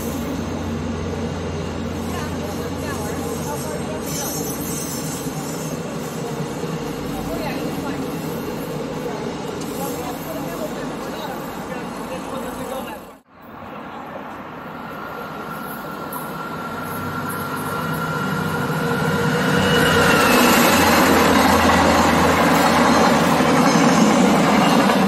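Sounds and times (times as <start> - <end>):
diesel train passing: 0.0 - 25.0.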